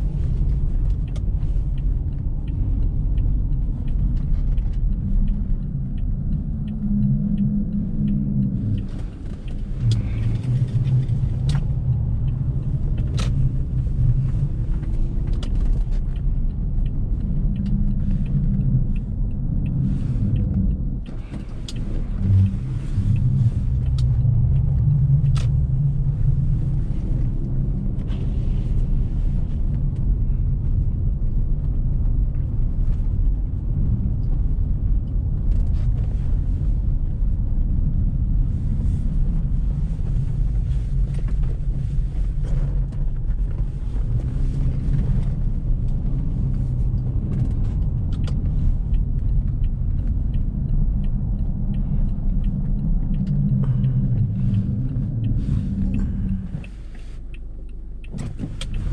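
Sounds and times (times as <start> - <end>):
car engine and tyres rumbling: 0.0 - 58.9
faint clicks and ticks: 0.0 - 58.9.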